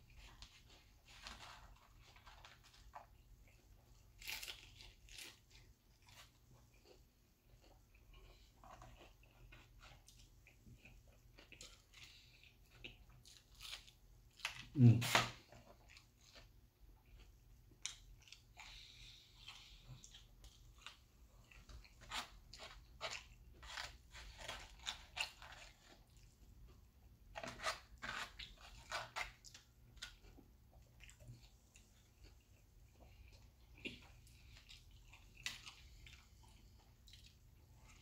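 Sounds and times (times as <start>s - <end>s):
chewing crispy fried food: 0.0s - 38.0s.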